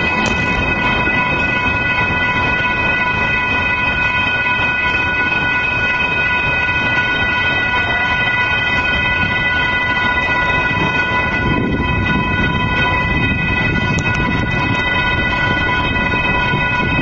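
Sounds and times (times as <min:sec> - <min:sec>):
steady high tone: 0:00.0 - 0:17.0
train rumbling: 0:00.0 - 0:17.0.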